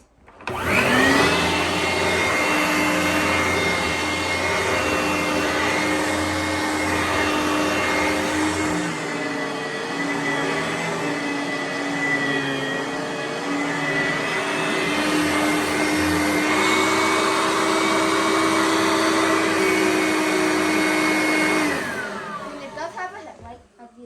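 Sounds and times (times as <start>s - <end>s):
vacuum cleaner running on carpet: 0.3s - 23.5s.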